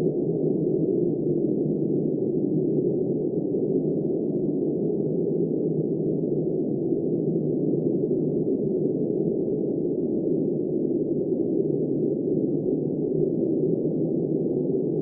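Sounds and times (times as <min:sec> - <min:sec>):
muffled blizzard wind: 0:00.0 - 0:15.0.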